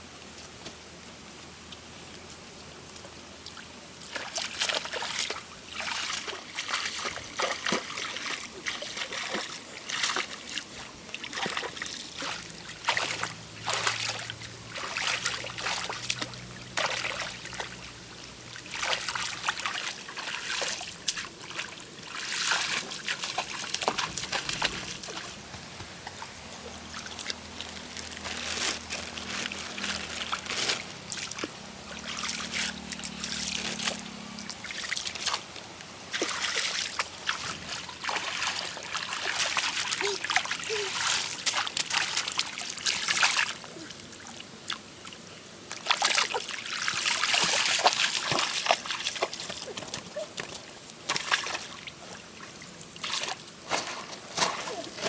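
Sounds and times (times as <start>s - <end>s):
water sloshing and splashing: 3.4s - 55.0s.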